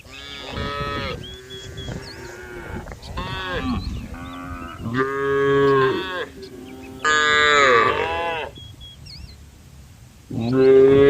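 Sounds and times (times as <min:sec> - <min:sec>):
cows mooing: 0:00.0 - 0:08.6, 0:10.3 - 0:11.0.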